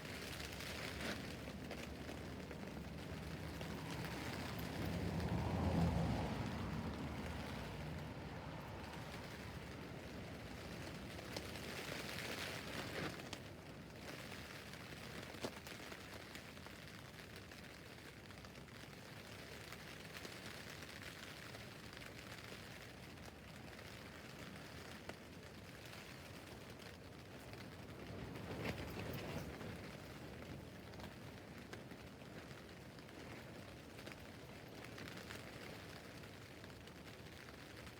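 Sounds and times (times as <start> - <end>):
rain on a tent roof: 0.0 - 37.9.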